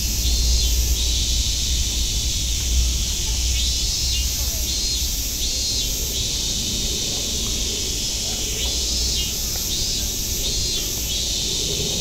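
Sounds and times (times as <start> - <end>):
cicadas buzzing chorus: 0.0 - 12.0
shrill pulsing insect call: 0.0 - 12.0.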